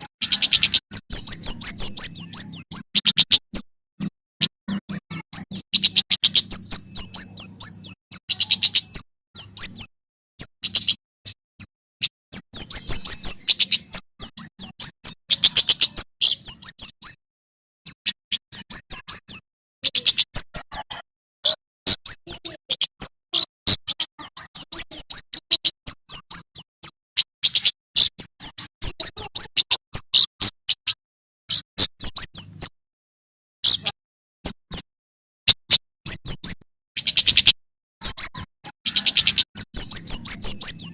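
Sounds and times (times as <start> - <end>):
bird chirping rapidly: 0.0 - 17.2, 17.9 - 32.8, 33.6 - 34.9, 35.5 - 40.9.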